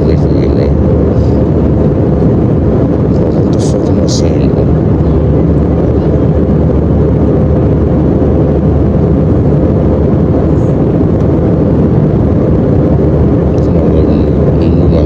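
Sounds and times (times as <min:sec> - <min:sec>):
airliner cabin engine roar: 0:00.0 - 0:15.0
faint steady hum: 0:00.0 - 0:15.0.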